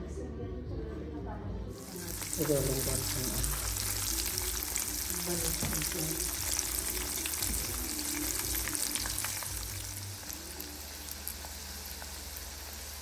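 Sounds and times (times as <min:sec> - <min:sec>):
food deep-frying in oil: 0:01.8 - 0:13.0.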